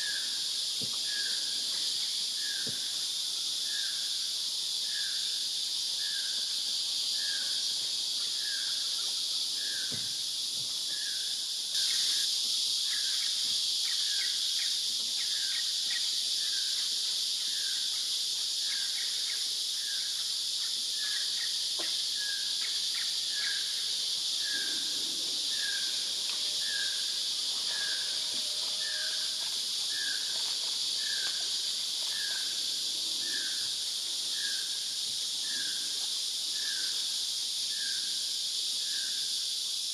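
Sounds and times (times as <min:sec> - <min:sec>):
insect chorus hiss: 0:00.0 - 0:39.9.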